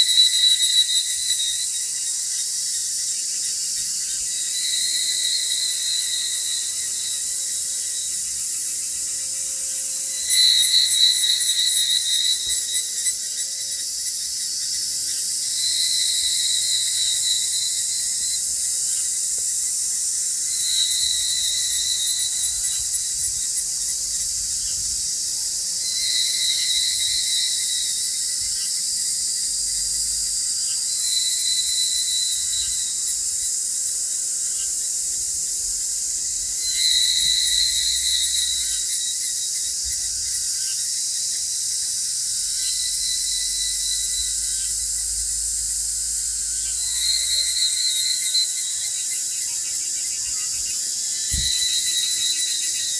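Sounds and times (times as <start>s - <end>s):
insects hissing: 0.0s - 52.9s
pulsing insect call: 0.0s - 52.9s.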